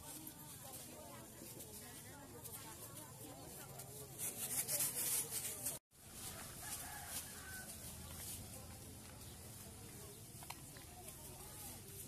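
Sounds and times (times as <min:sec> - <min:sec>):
distant market voices: 0:00.0 - 0:12.0.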